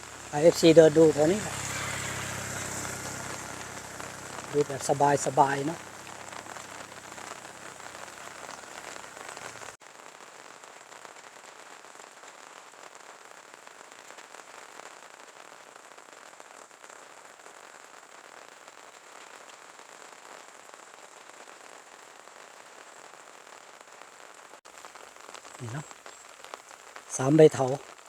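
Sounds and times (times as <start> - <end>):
light rain falling: 0.0 - 28.0.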